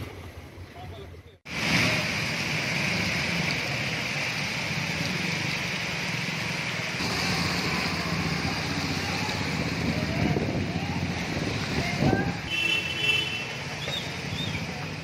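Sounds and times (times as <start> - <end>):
motorbike engines running: 0.0 - 15.0
wet street traffic hiss: 1.5 - 15.0.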